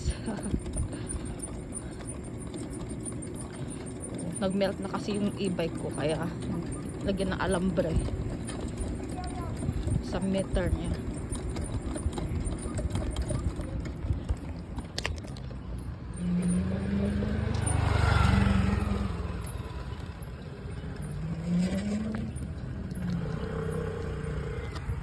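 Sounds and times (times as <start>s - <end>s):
road rumble and rattling: 0.0s - 25.0s.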